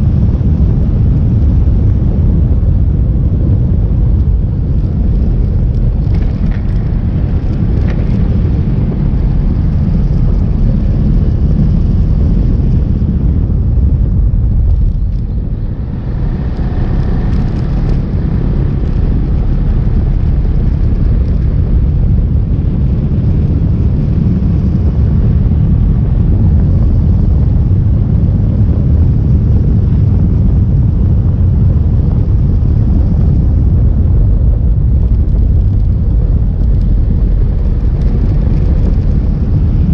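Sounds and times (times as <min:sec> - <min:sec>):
wind and road noise rumble: 0:00.0 - 0:39.9.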